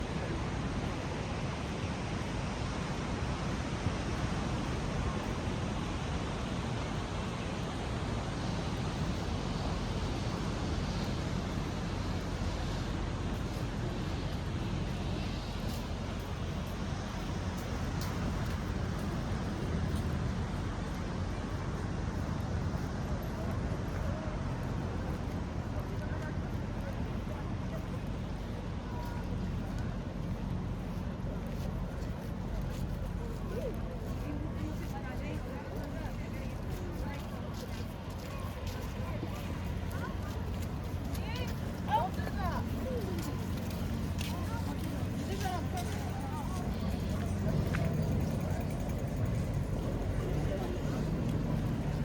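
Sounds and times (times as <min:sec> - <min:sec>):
wind: 0:00.0 - 0:52.0
wind rumble on microphone: 0:00.0 - 0:52.0.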